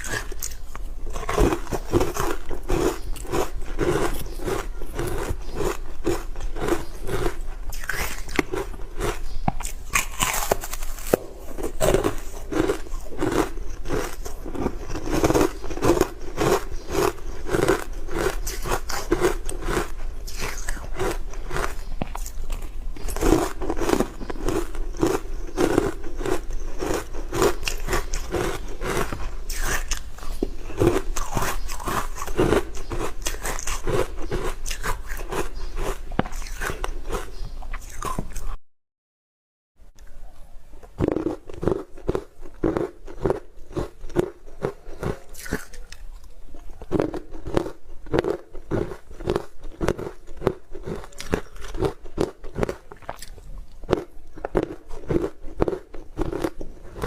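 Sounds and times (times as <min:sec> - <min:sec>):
ice being chewed: 0:00.0 - 0:38.6, 0:41.0 - 0:57.0.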